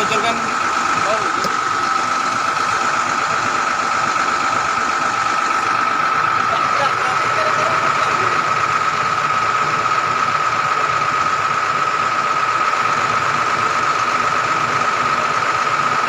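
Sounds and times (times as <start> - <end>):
engine idling: 0.0 - 16.0
high-pitched whine: 0.0 - 16.0.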